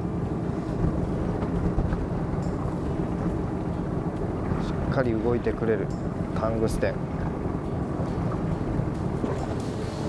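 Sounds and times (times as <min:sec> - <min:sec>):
boat engine rumble: 0:00.0 - 0:10.0
wind buffeting microphone: 0:00.0 - 0:10.0.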